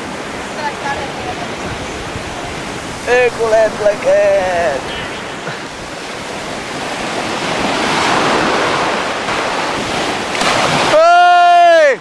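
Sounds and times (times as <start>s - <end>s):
sea surf washing in: 0.0s - 12.0s.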